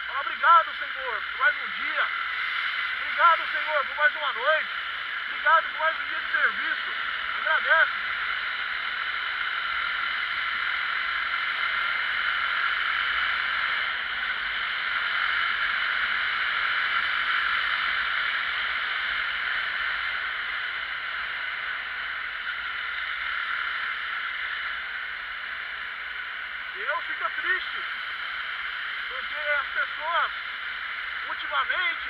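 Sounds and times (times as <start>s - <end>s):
motorcycle road noise: 0.0s - 32.0s.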